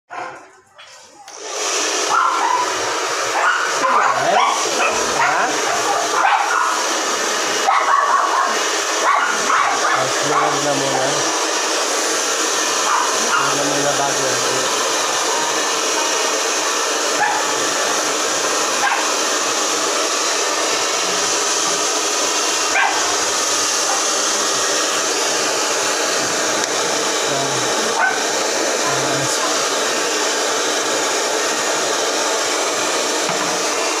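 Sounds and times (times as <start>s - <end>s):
hair dryer blowing: 1.3s - 34.0s.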